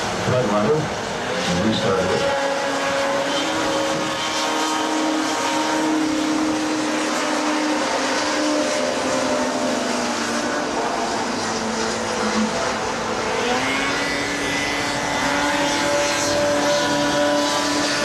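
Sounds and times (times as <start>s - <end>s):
snowmobile engines running: 0.0s - 18.0s.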